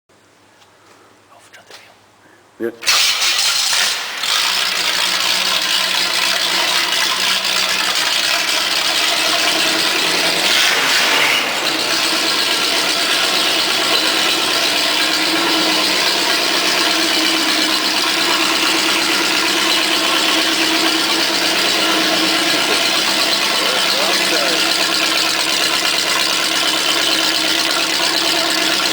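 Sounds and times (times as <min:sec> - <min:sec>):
car engine idling: 0:02.9 - 0:28.9.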